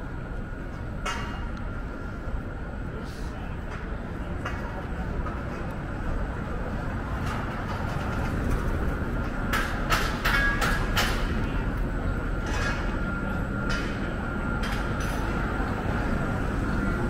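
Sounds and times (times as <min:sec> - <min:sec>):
faint high whine: 0:00.0 - 0:17.0
street traffic rumbling: 0:01.7 - 0:17.0.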